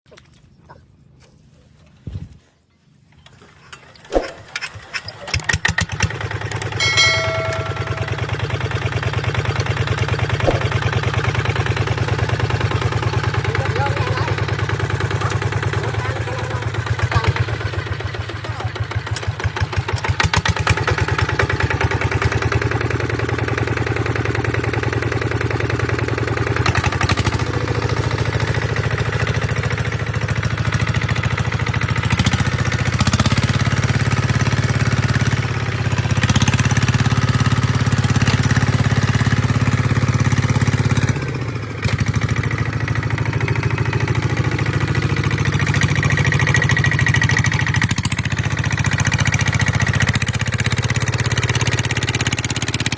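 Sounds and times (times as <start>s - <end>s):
diesel tractor engine running: 5.6s - 52.9s.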